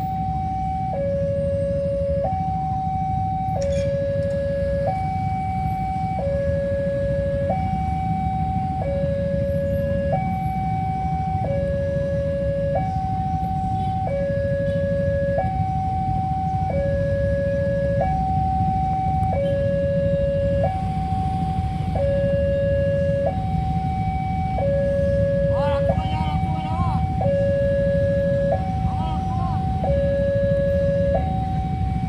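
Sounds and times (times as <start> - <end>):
steady low rumble: 0.0 - 32.0
two-tone warning siren: 0.0 - 32.0.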